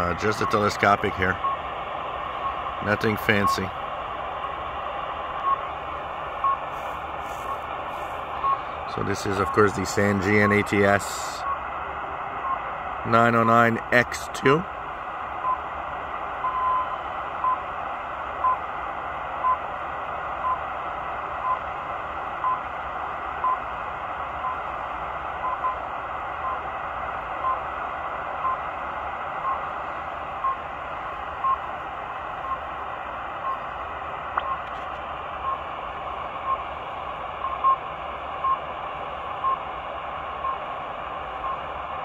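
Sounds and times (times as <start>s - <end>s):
static hiss: 0.0s - 42.0s.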